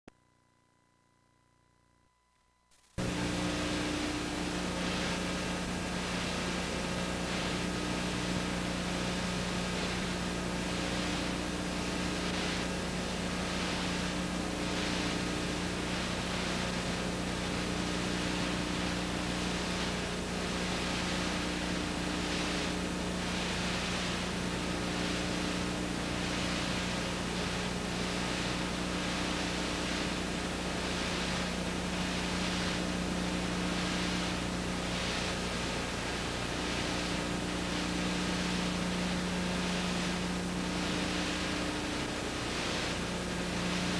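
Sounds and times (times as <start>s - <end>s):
tape hiss: 2.4s - 43.9s
low electrical hum: 2.8s - 43.9s.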